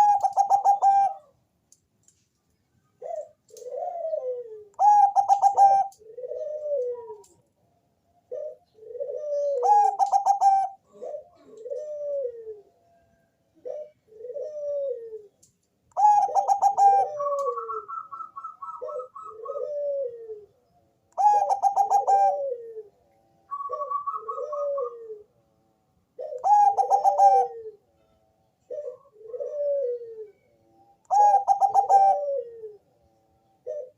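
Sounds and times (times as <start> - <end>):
dove cooing: 0.0 - 1.4, 3.0 - 7.4, 8.2 - 12.9, 13.5 - 25.4, 26.1 - 33.9.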